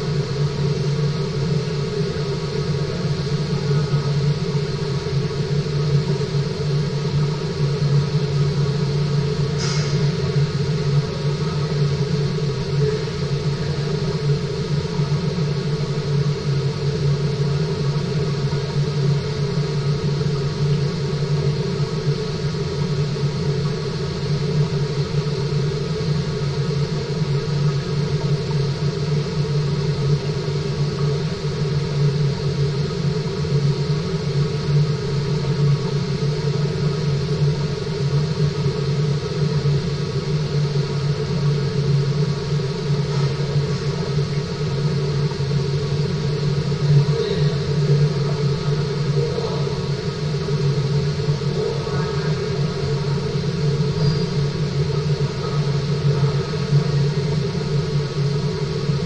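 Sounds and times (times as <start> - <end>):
water circulating rumble and hum: 0.0 - 59.0.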